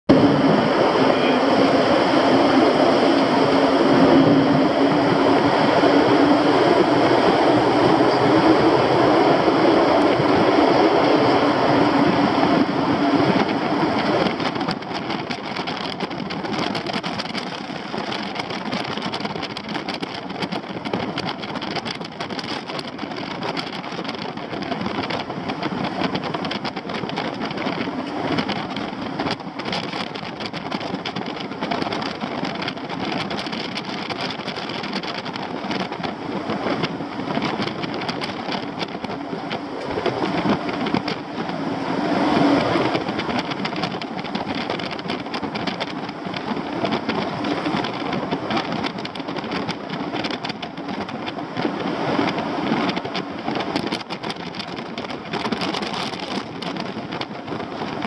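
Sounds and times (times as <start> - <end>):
vehicle driving on gravel: 4.0 - 58.0.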